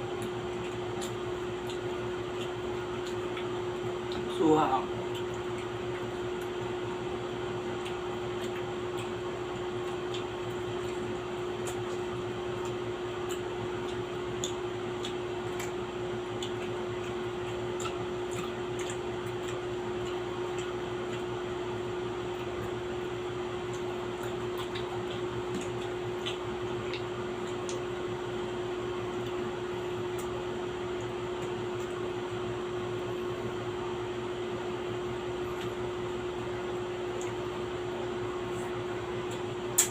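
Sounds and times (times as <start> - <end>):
steady machine hum: 0.0 - 39.9.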